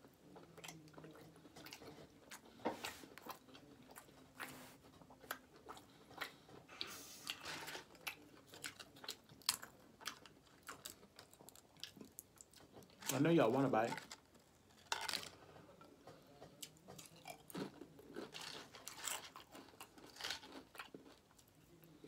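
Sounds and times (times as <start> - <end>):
person chewing food: 0.0 - 13.2, 13.8 - 22.0.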